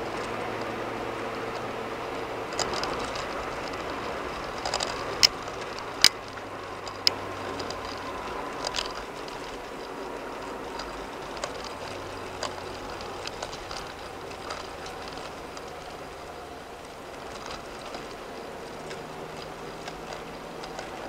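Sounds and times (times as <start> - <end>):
tyre and road noise: 0.0 - 21.0
sharp clicks: 2.5 - 21.0.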